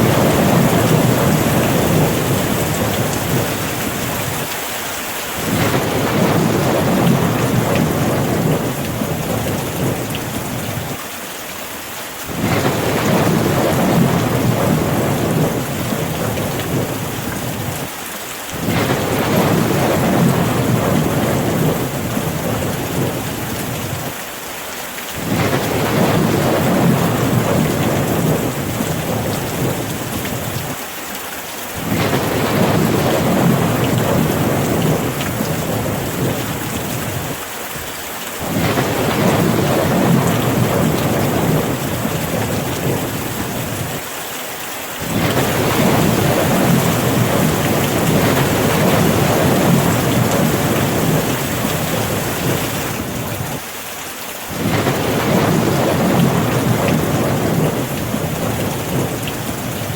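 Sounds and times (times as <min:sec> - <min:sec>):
rolling thunder: 0:00.0 - 0:04.5, 0:05.4 - 0:11.0, 0:12.3 - 0:17.9, 0:18.6 - 0:24.1, 0:25.2 - 0:30.8, 0:31.8 - 0:37.4, 0:38.4 - 0:44.0, 0:45.0 - 0:53.6, 0:54.5 - 0:59.9
steady rain: 0:00.0 - 0:59.9.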